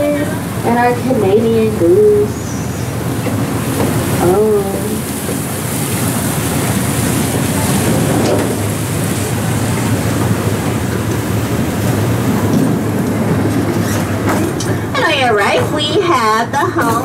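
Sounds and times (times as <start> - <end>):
ride train rolling on track: 0.0 - 17.0.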